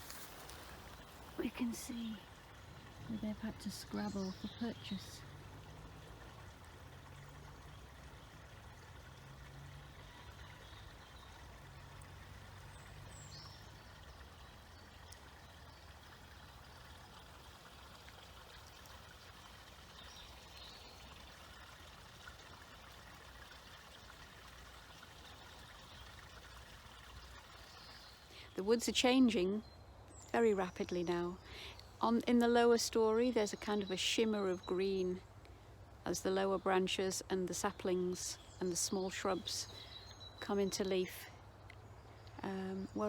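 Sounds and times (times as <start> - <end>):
stream flowing faintly: 0.0 - 43.0.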